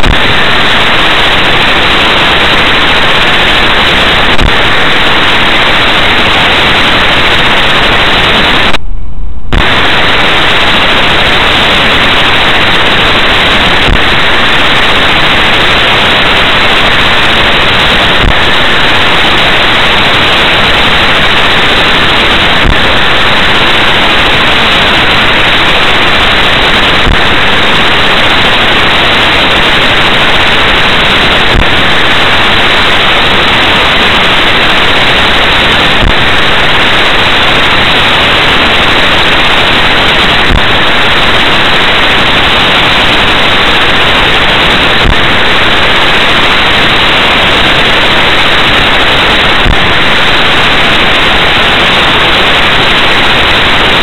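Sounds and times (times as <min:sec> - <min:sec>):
steady hiss: 0:00.0 - 0:08.8, 0:09.6 - 0:54.0.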